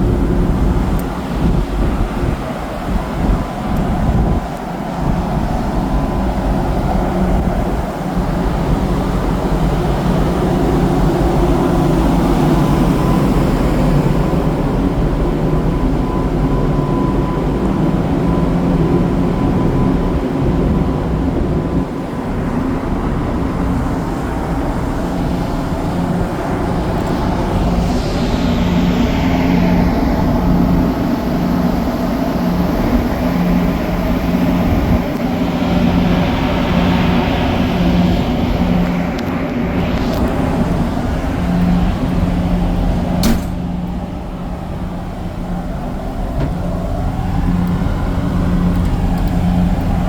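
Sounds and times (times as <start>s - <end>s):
ferry engines droning: 0.0s - 50.0s.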